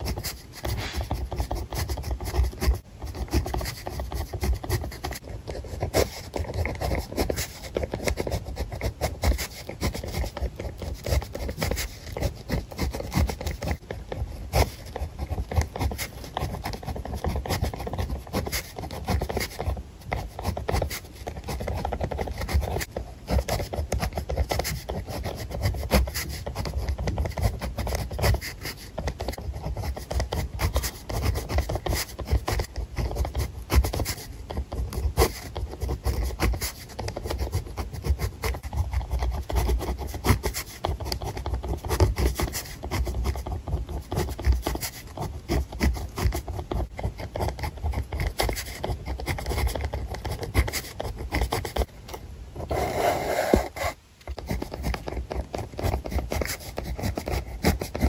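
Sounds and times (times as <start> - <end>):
pen scratching on paper: 0.0 - 51.9, 52.6 - 58.0.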